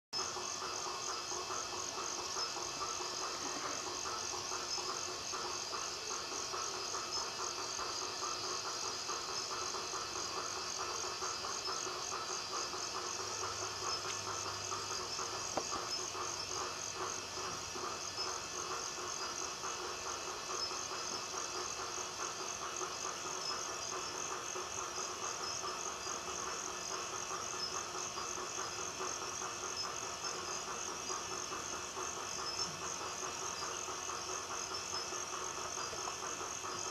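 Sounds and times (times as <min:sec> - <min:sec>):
frogs trilling: 0:00.2 - 0:36.9
insects trilling: 0:00.2 - 0:36.9.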